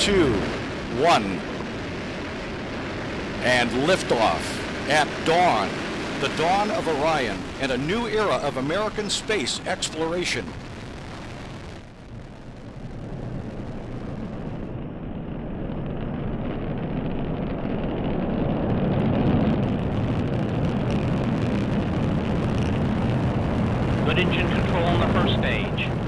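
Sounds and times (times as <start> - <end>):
rocket engines rumbling: 0.0 - 26.0.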